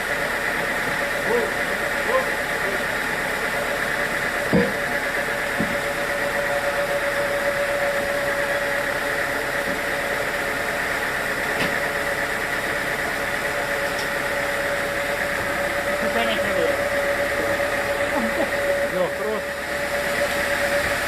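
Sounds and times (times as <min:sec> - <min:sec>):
sawmill machinery humming: 0:00.0 - 0:21.0.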